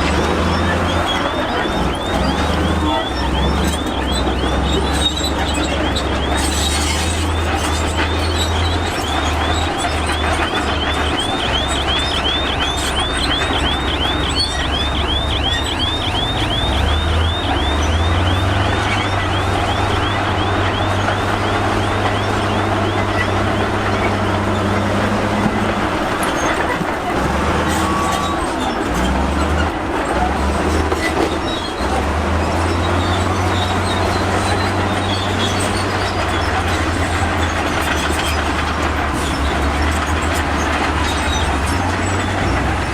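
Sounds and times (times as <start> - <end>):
bulldozer diesel engine: 0.0 - 42.9
high track squeal: 0.0 - 42.9
steel tracks clanking: 0.0 - 42.9.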